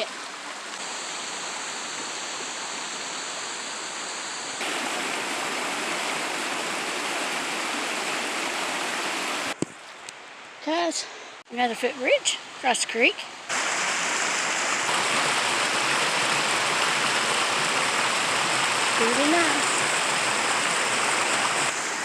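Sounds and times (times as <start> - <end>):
creek water rushing over stones: 0.0 - 10.7, 11.8 - 22.0.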